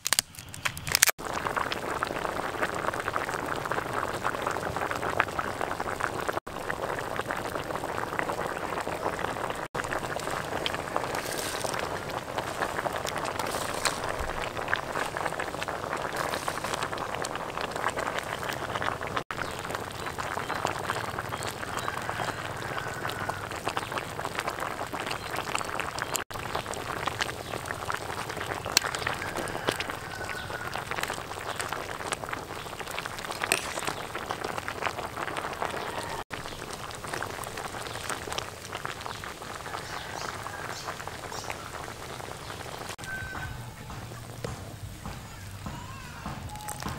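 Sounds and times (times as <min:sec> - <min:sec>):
stew boiling and bubbling: 0:00.0 - 0:46.9.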